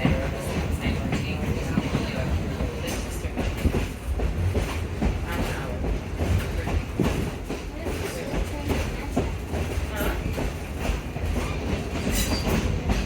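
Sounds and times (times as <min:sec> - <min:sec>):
rail car rumbling on track: 0:00.0 - 0:13.0.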